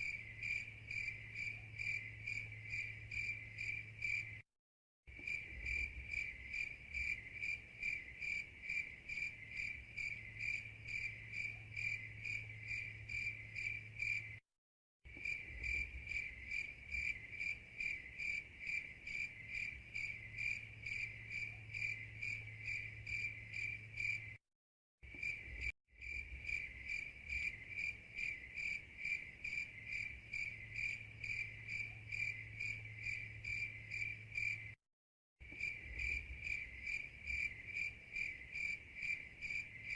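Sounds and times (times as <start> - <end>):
crickets chirping: 0.0 - 4.4, 5.1 - 14.4, 15.1 - 24.4, 25.1 - 34.8, 35.4 - 39.9.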